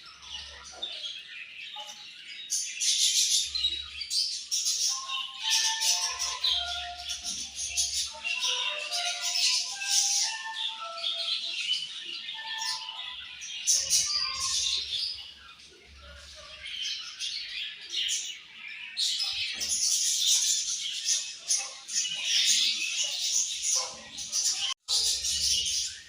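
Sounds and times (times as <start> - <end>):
budgerigars chirping and chattering: 0.0 - 26.0.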